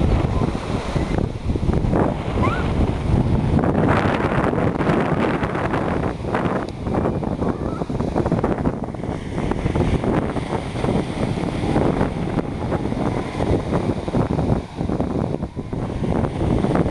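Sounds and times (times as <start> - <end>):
waves breaking on shore: 0.0 - 16.9
wind buffeting microphone: 0.0 - 16.9.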